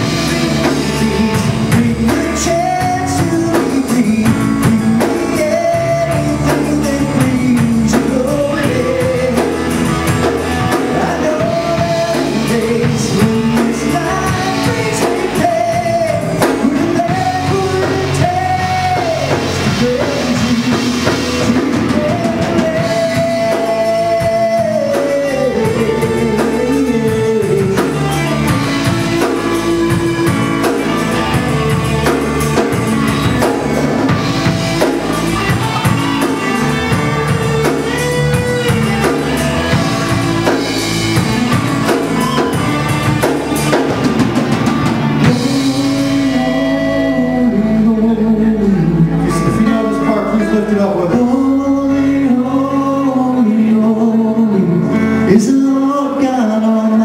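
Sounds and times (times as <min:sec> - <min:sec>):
rock song with sung vocals: 0:00.0 - 0:57.0.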